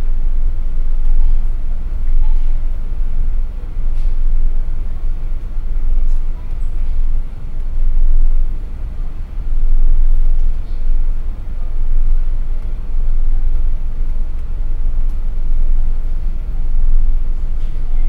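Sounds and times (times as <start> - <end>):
heavy low ferry rumble: 0.0 - 18.0.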